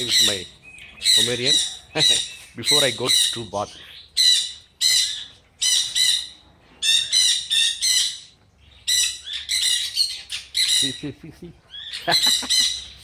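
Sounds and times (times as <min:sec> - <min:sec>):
bird squawking: 0:00.0 - 0:11.1, 0:11.7 - 0:13.0.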